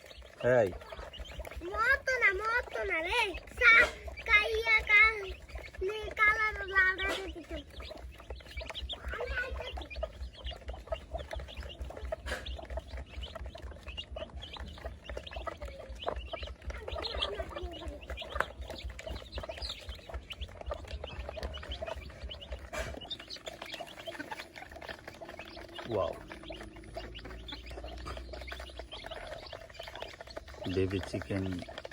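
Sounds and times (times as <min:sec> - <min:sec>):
baby chicks peeping: 0:00.0 - 0:31.9.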